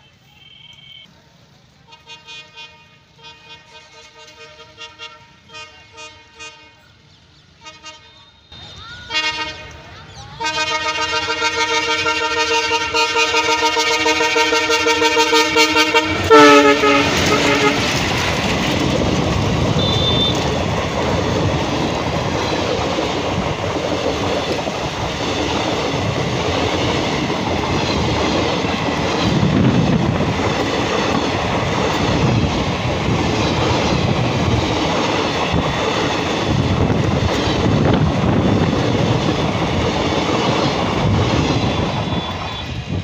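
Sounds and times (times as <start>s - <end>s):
train wheels rattling on rails: 8.6s - 43.0s.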